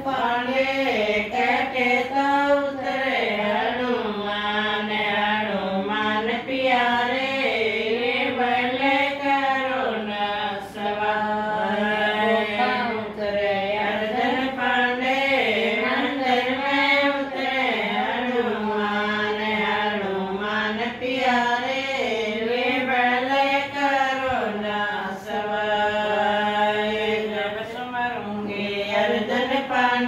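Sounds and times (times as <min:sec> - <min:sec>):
woman singing unaccompanied: 0:00.0 - 0:30.0.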